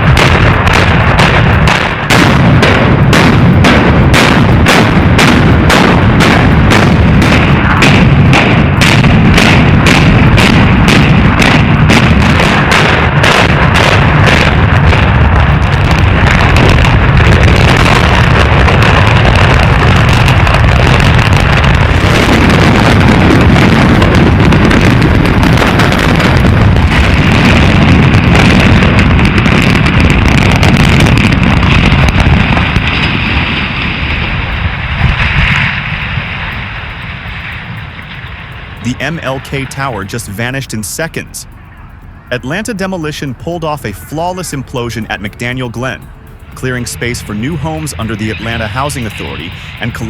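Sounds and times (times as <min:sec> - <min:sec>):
rumble of building collapsing: 0:00.0 - 0:50.0
wind buffeting microphone: 0:00.0 - 0:50.0.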